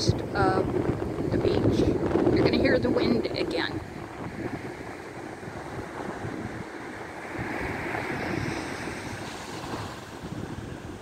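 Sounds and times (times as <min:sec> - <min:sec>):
surf washing on shore: 0:00.0 - 0:11.0
wind buffeting microphone: 0:00.0 - 0:11.0.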